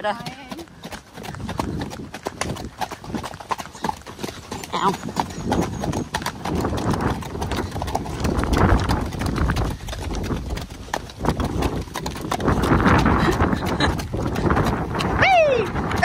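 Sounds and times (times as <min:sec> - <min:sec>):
hooves on a dirt track: 0:00.0 - 0:16.0
wind on the microphone: 0:01.2 - 0:16.0.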